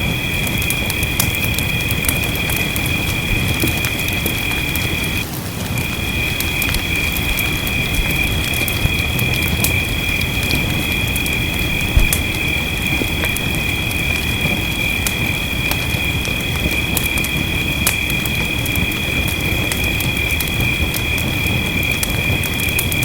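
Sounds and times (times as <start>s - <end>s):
rain hissing: 0.0s - 23.0s
wood fire crackling and popping: 0.0s - 23.0s.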